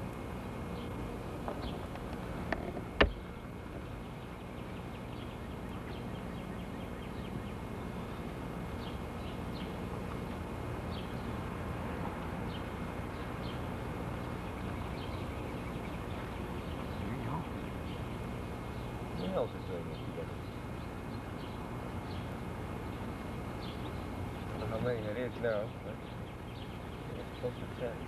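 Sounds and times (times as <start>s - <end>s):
low hum: 0.0s - 24.7s
birds chirping: 0.0s - 28.0s.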